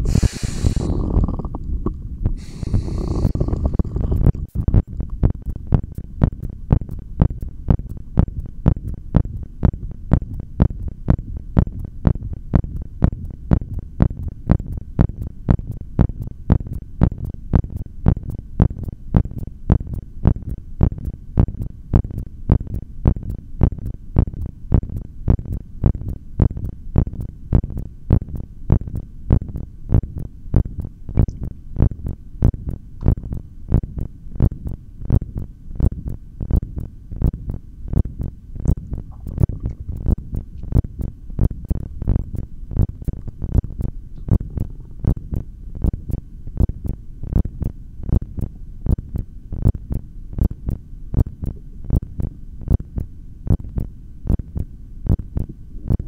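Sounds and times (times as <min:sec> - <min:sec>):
heartbeat thumps: 0:00.0 - 0:56.0.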